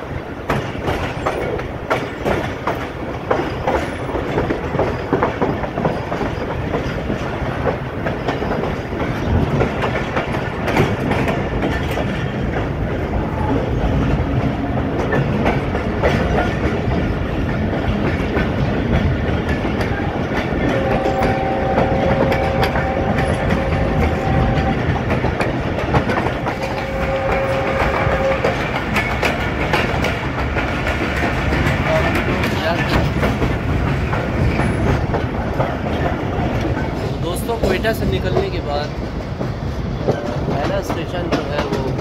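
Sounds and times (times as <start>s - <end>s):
train rumbling: 0.0s - 42.0s
wheels clacking over rail joints: 0.0s - 42.0s.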